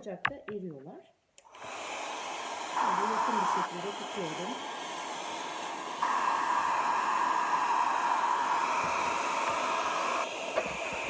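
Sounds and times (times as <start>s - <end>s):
hair dryer running: 1.4s - 11.0s.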